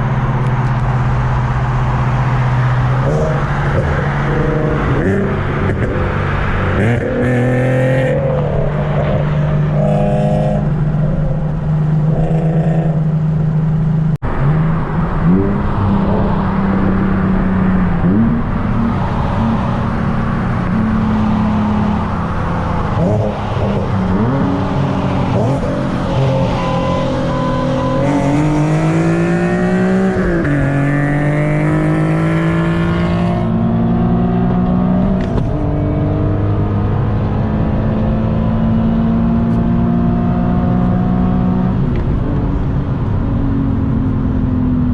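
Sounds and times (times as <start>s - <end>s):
car engine accelerating through gears: 0.0s - 44.9s.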